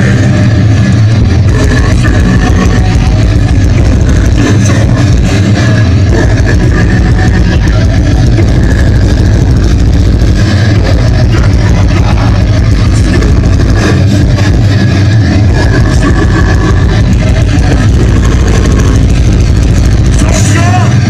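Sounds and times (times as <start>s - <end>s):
distorted loud metal band: 0.0s - 21.0s.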